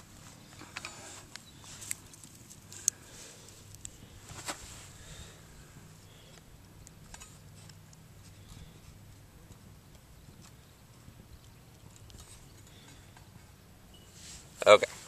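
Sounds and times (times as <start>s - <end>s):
quiet outdoor background: 0.0s - 15.0s.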